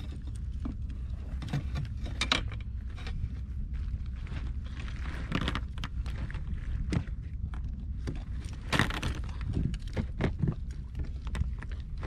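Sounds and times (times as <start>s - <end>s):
knocks and rattles in a net: 0.0s - 12.0s
steady low rumble: 0.0s - 12.0s.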